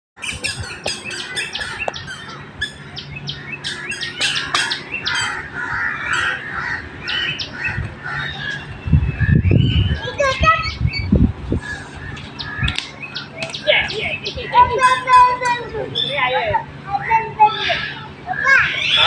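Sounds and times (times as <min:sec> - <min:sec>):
bird squawks: 0:00.2 - 0:15.3, 0:17.0 - 0:19.0
birds chirping: 0:00.2 - 0:19.0.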